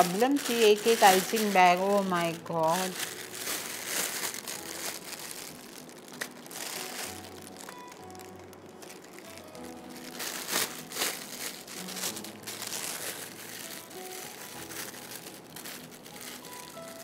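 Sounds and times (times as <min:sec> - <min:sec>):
plastic piping bag crinkling: 0:00.0 - 0:17.0
soft background music: 0:00.0 - 0:17.0.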